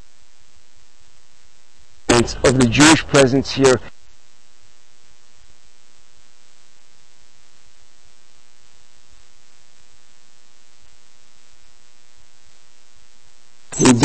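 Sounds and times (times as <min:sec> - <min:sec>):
electrical mains hum with hiss: 0:00.0 - 0:14.0.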